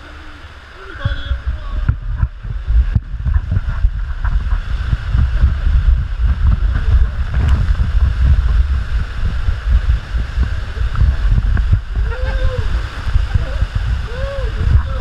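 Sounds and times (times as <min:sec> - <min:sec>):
water rushing down a slide: 0:00.0 - 0:15.0
wind buffeting microphone: 0:00.0 - 0:15.0.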